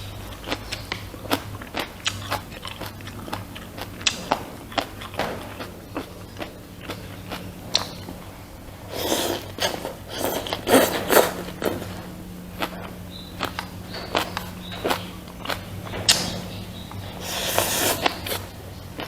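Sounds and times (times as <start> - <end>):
chewing with wet mouth clicks: 0.0 - 8.3, 8.9 - 19.0
steady low hum: 0.0 - 19.0.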